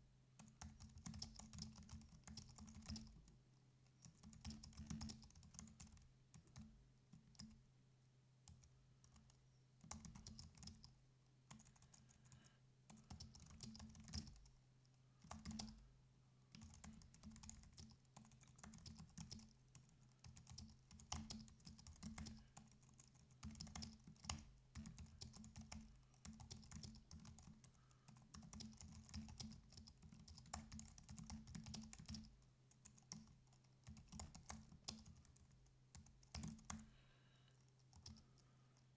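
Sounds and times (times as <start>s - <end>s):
typing on computer keyboard: 0.4s - 3.3s, 4.0s - 7.6s, 8.5s - 10.9s, 11.5s - 14.5s, 15.2s - 15.8s, 16.5s - 36.9s, 37.6s - 38.5s.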